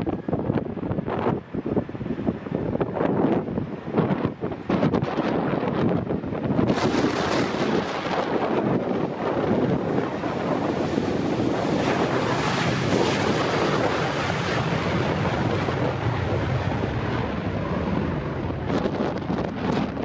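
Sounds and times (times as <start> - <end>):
strong gusting wind on microphone: 0.0 - 20.0.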